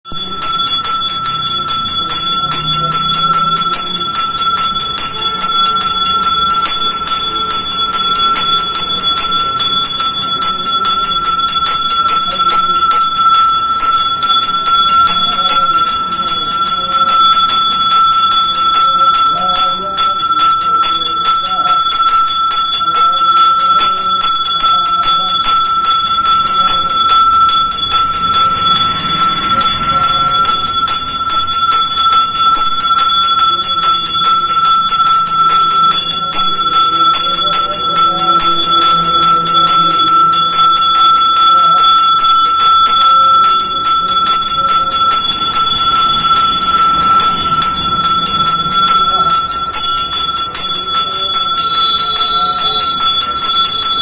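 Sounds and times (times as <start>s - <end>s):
bell ringing continuously: 0.0s - 54.0s
faint voices: 0.1s - 54.0s.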